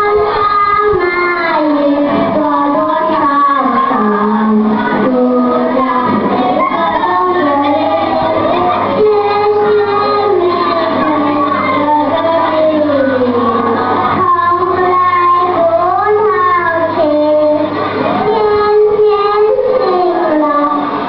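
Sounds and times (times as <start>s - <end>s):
children singing: 0.0s - 21.0s
steady low hum: 0.0s - 21.0s.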